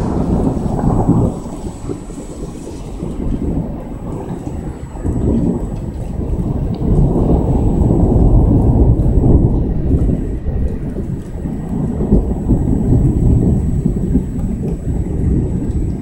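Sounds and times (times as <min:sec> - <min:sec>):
falling rain: 0:00.0 - 0:16.0
rolling thunder: 0:00.0 - 0:16.0.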